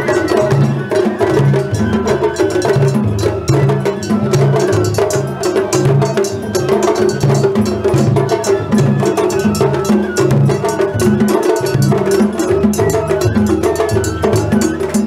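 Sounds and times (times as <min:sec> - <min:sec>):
taiko drums beating: 0:00.0 - 0:15.0.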